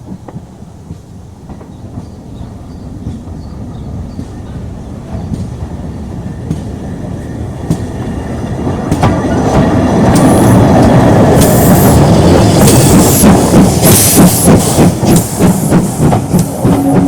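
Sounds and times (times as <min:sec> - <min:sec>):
steam train rumbling: 0:00.0 - 0:17.0.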